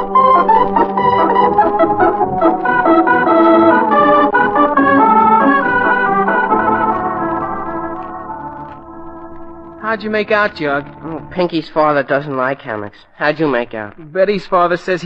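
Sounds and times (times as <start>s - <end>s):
organ music: 0.0s - 12.6s.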